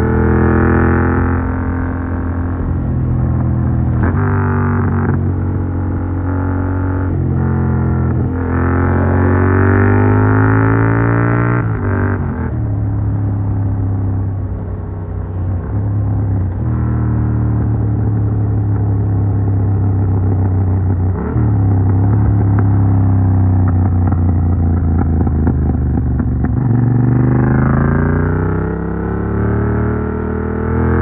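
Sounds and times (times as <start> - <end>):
motorcycle engine while riding: 0.0 - 31.0.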